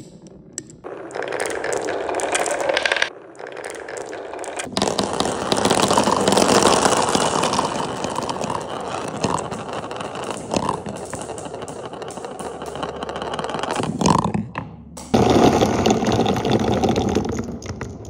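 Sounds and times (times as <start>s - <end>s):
marbles rolling down plastic tubes: 0.0s - 18.0s
marbles clattering into container: 1.1s - 14.5s, 15.1s - 18.0s.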